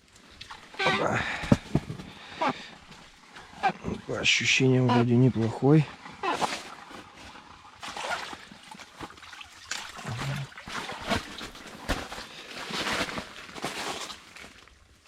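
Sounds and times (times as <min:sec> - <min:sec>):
water splashing: 0:00.0 - 0:12.4.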